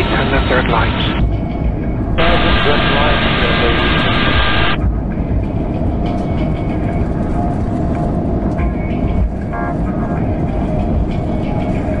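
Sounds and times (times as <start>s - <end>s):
jet engine noise: 0.0s - 12.0s.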